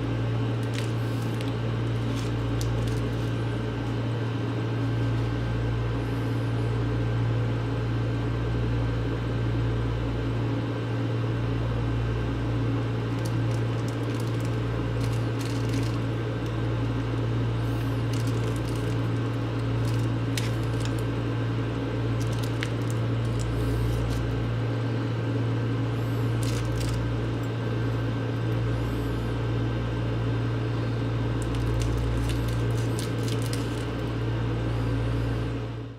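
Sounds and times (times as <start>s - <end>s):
microwave oven humming: 0.0s - 35.9s
thin steady whine: 0.0s - 35.9s.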